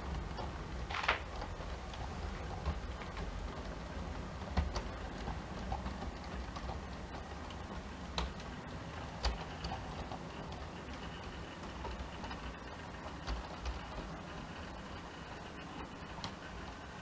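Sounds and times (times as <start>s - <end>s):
model train wheels clicking: 0.0s - 17.0s.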